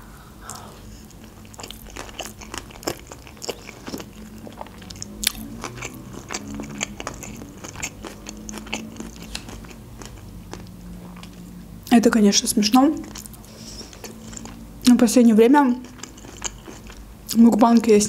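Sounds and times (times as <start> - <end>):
person chewing wetly: 0.4 - 11.6, 13.0 - 15.0, 15.7 - 17.4.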